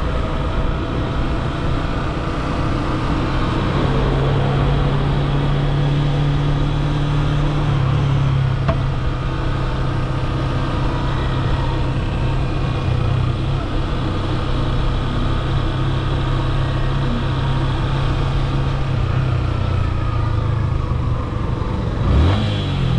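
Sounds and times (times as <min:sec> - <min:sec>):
motorcycle engine running: 0:00.0 - 0:22.9
road and wind noise: 0:00.0 - 0:22.9.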